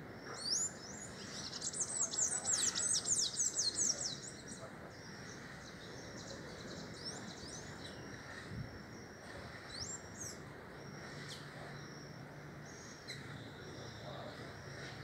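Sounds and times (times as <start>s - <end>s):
birds chirping: 0.0s - 15.0s
steady outdoor hiss: 0.0s - 15.0s.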